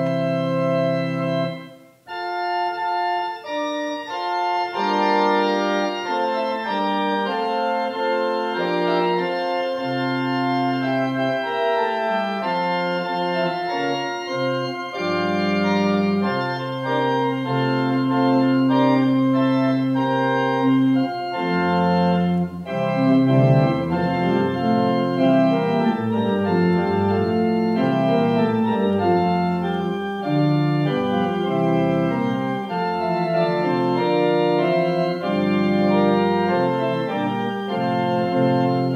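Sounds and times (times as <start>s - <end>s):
organ music: 0.0s - 38.9s.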